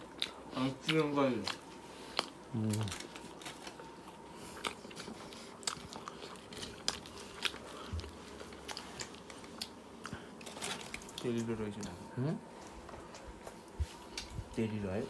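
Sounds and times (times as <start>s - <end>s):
person chewing food: 0.0s - 14.5s.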